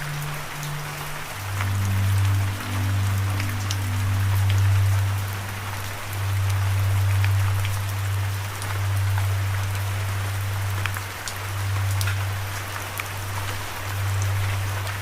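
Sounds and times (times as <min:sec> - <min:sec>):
low musical drone: 0:00.0 - 0:15.0
rain hiss: 0:00.0 - 0:15.0
raindrop ticks: 0:00.0 - 0:15.0.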